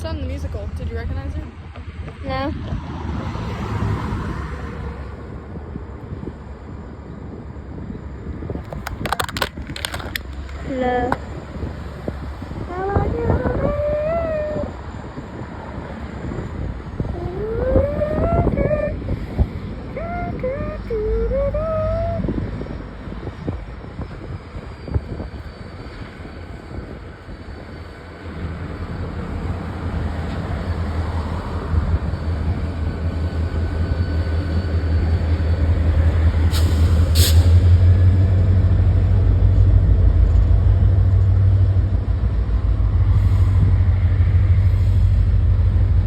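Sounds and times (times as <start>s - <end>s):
train rumbling past: 0.0s - 46.0s.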